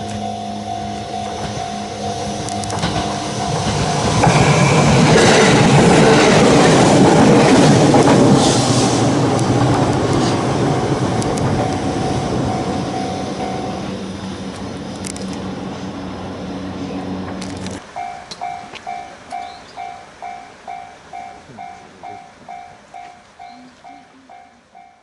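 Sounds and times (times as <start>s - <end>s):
level crossing warning bell: 0.0s - 8.2s, 9.3s - 14.6s, 17.8s - 25.0s
train passing: 0.0s - 25.0s
train wheel noise: 0.0s - 25.0s.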